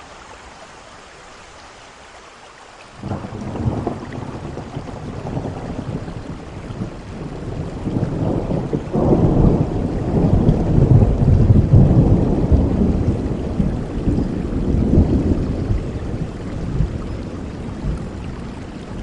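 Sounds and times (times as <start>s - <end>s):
heavy rain: 0.0s - 19.0s
thunder rumbling: 3.0s - 19.0s.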